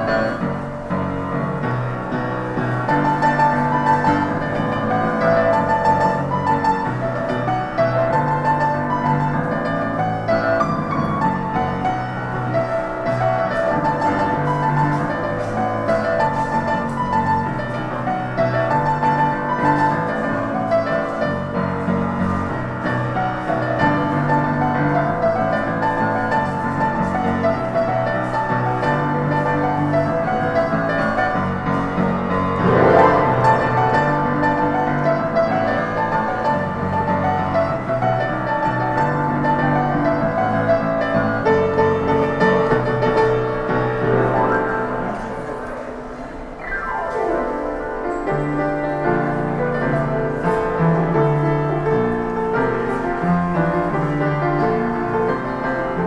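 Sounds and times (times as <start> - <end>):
fast piano playing: 0.0 - 56.0.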